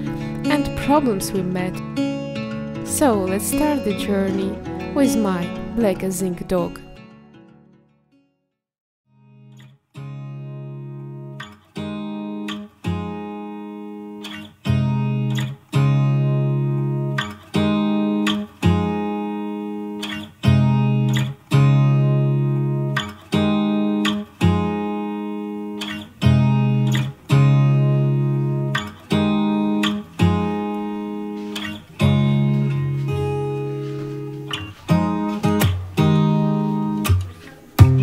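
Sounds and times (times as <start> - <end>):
guitar strumming chords: 0.0 - 8.0, 9.2 - 38.0.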